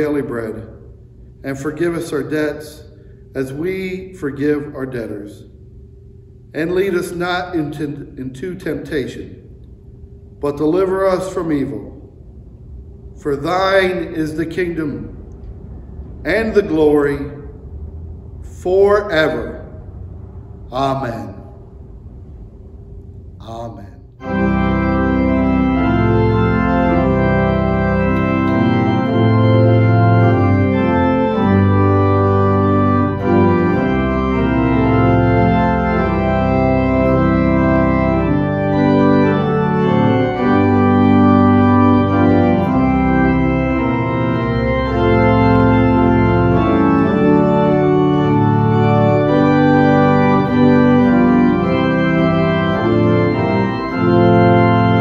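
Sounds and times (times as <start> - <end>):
church organ chords: 0.0 - 55.0
deep organ pedal bass notes: 0.0 - 55.0.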